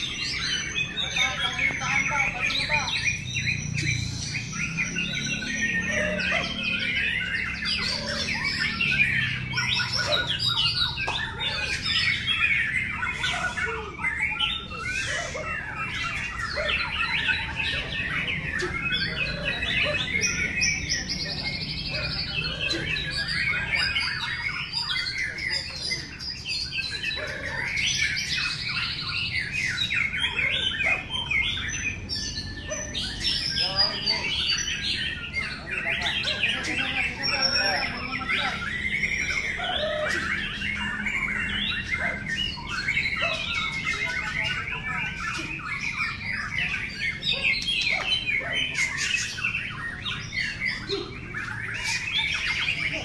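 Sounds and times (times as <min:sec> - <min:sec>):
chorus of birds singing: 0:00.0 - 0:53.0.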